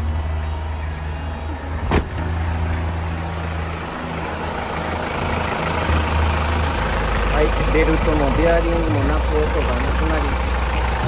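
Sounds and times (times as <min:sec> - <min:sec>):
van engine idling: 0:00.0 - 0:11.0.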